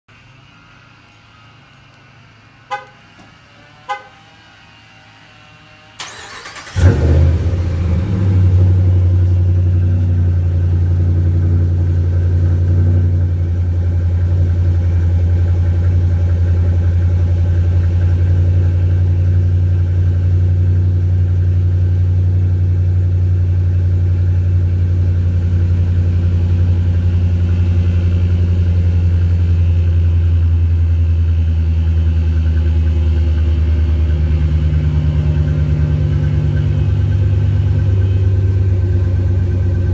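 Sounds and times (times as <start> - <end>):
truck engine starting and idling: 0.3 - 39.9.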